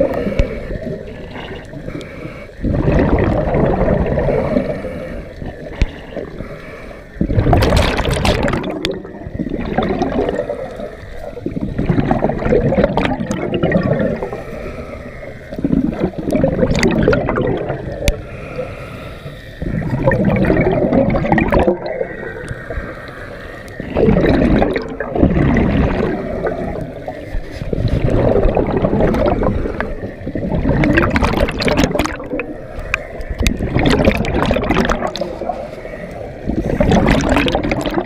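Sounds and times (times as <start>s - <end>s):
underwater exhaust bubbles: 0.0s - 38.0s.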